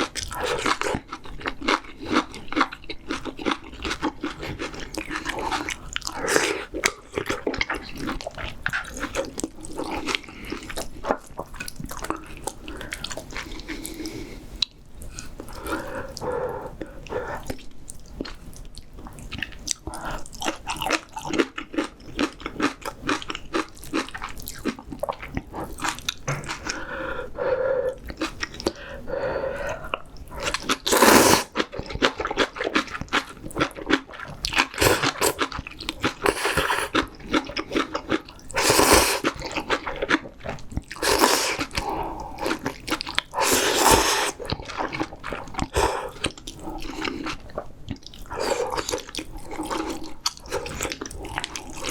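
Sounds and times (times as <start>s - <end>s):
chewing and crunching: 0.0s - 26.9s, 27.9s - 29.0s, 29.7s - 51.9s.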